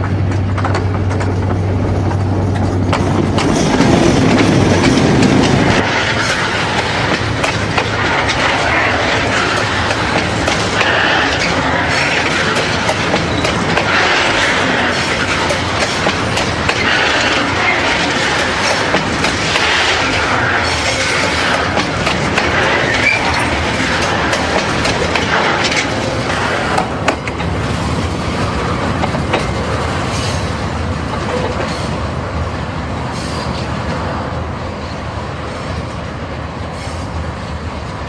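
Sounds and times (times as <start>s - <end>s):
train wheels clattering on rails: 0.0s - 38.0s.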